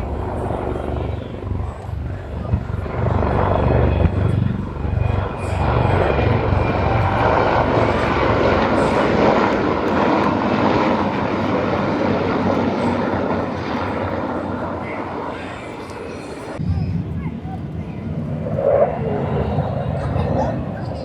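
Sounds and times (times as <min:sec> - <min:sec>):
aircraft engine roar flying past: 0:00.0 - 0:21.0.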